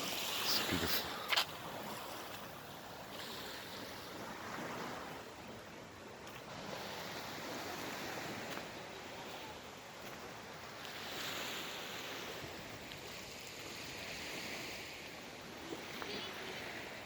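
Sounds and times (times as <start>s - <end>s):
waves washing ashore: 0.0s - 17.0s.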